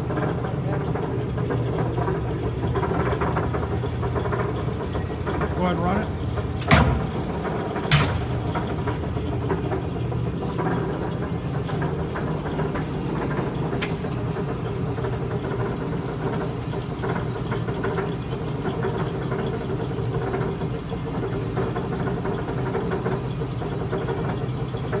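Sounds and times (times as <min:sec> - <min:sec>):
punch press machine hum: 0:00.0 - 0:25.0.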